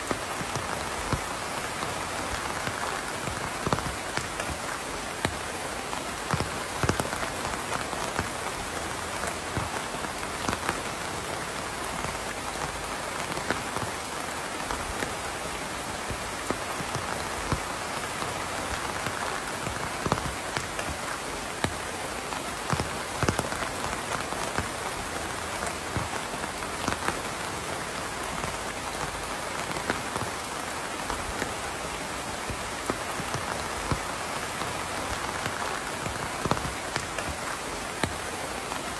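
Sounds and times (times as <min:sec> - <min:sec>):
raindrops pattering close by: 0:00.0 - 0:38.9
steady rain hiss: 0:00.0 - 0:38.9.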